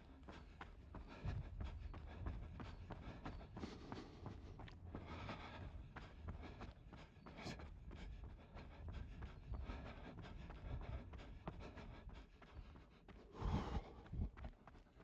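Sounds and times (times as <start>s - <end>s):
runner's footsteps: 0.0s - 15.0s.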